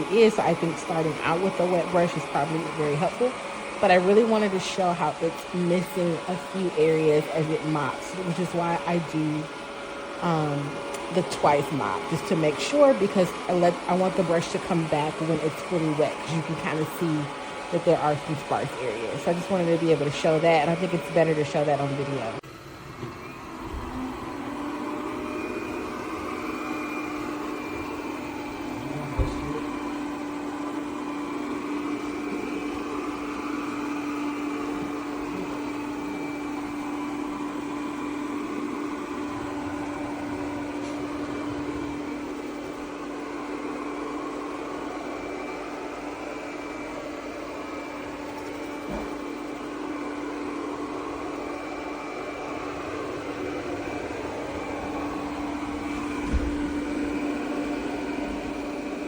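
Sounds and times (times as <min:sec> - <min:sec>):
robot vacuum motor hum: 0:00.0 - 0:59.0.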